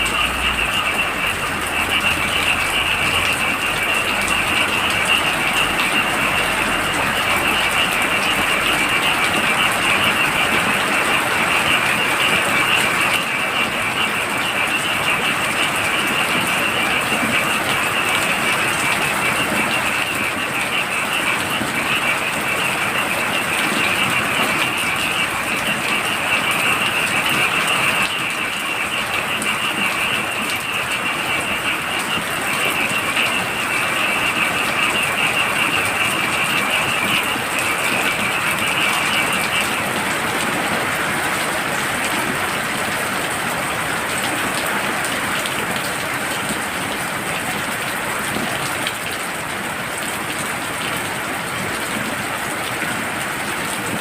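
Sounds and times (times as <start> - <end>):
frogs calling: 0.0 - 54.0
heavy rain falling: 0.0 - 54.0.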